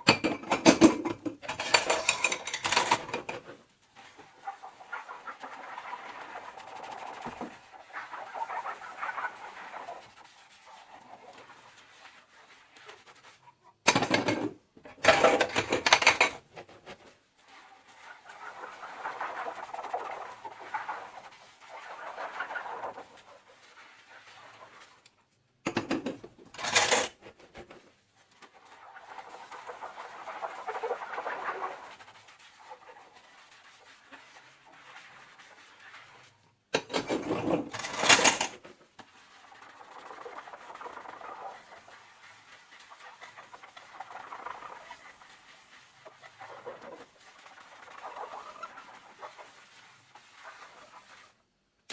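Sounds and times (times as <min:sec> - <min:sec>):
sponge scrubbing dishes: 0:00.0 - 0:51.5.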